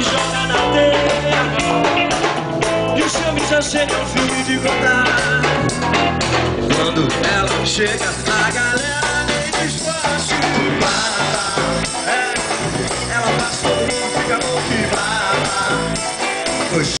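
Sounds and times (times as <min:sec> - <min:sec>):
live band playing upbeat song: 0:00.0 - 0:17.0
man singing: 0:00.0 - 0:17.0.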